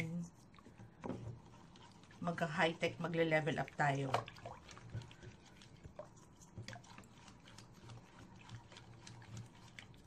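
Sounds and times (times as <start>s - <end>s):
liquid stirred in bowl: 0.0s - 10.0s.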